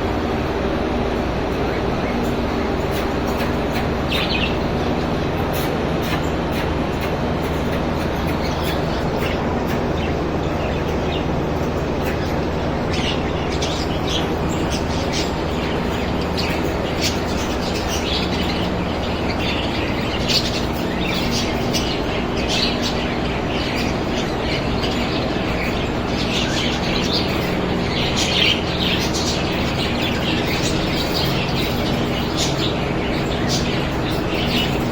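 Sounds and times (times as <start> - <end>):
birds chirping and twittering: 0.0 - 34.9
steady low hum: 0.0 - 34.9.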